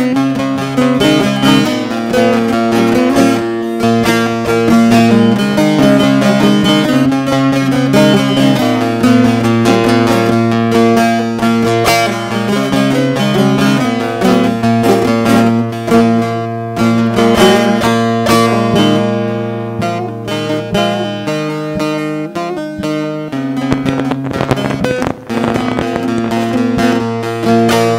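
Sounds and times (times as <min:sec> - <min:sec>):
long-necked lute melody: 0:00.0 - 0:27.9.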